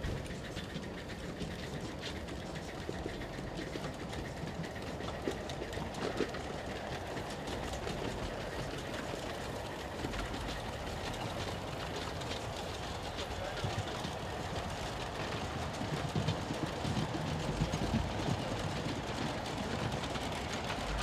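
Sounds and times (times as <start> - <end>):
model steam train running: 0.0 - 21.0
wheel clicks and rattles: 0.0 - 21.0.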